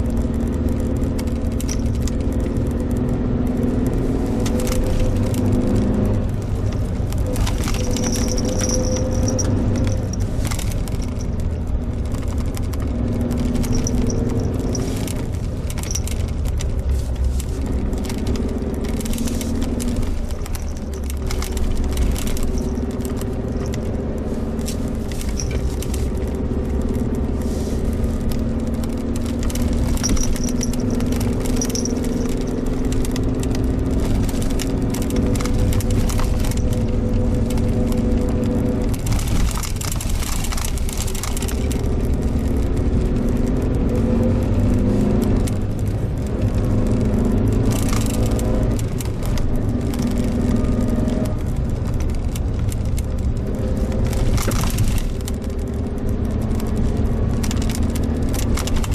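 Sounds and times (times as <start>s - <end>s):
car engine running: 0.0s - 58.9s
road noise rumble: 0.0s - 58.9s
small rattles and knocks: 0.0s - 58.9s.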